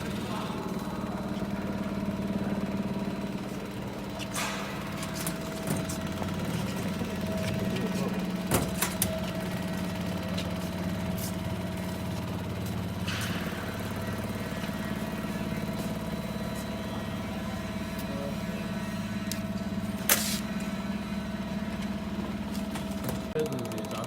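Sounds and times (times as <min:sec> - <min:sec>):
machine hum and whine: 0:00.0 - 0:24.0.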